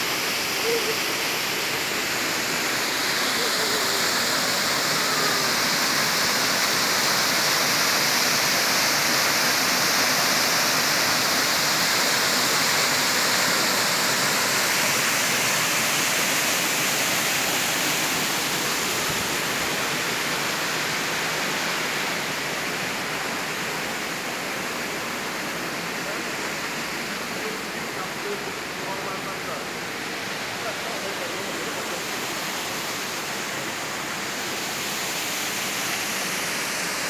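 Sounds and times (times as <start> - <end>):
waterfall pouring into pool: 0.0 - 27.6, 28.2 - 37.0.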